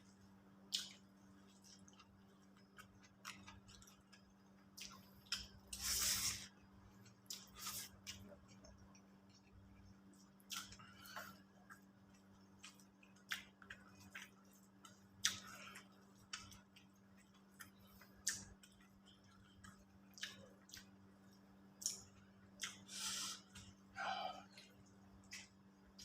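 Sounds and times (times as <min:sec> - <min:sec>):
steady low hum: 0:00.0 - 0:26.0
wet chewing clicks and smacks: 0:00.7 - 0:05.7, 0:07.0 - 0:22.9, 0:24.5 - 0:26.0.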